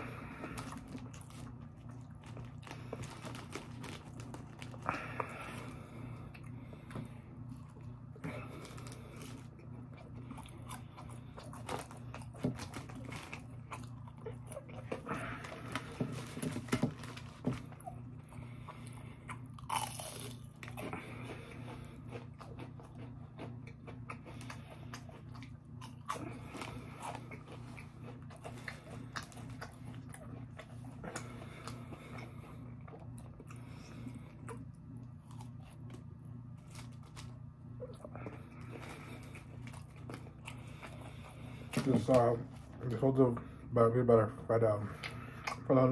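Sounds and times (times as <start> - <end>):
person chewing crunchy food: 0.0 - 43.2, 44.9 - 45.9.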